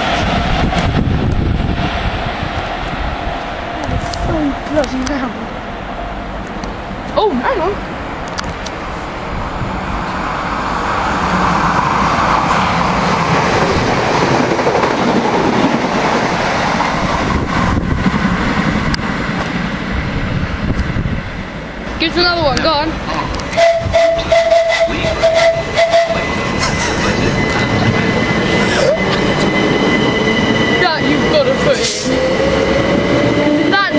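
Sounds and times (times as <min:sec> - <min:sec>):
steady train tone: 0:00.0 - 0:33.9
train rushing past: 0:00.0 - 0:33.9.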